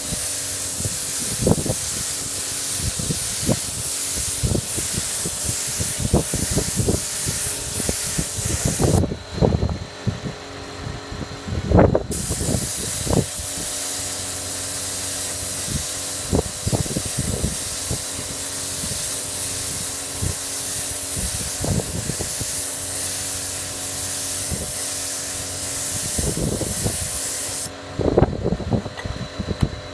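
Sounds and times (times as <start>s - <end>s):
spray gun hissing: 0.0s - 9.0s, 12.1s - 27.7s.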